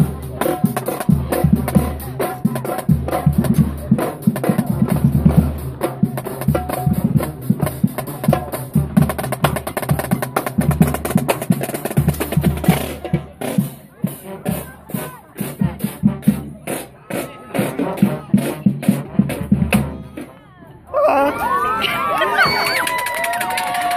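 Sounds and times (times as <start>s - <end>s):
marching band playing: 0.0s - 20.7s.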